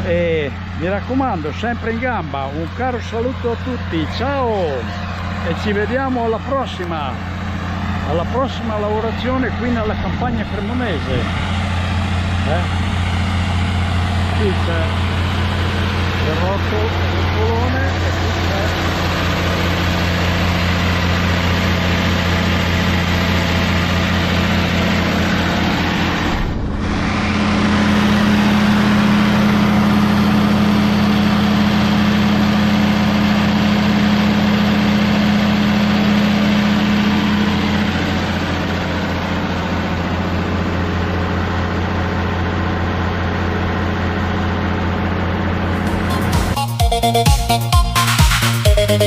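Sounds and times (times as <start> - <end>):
heavy engine running steadily: 0.0 - 49.0.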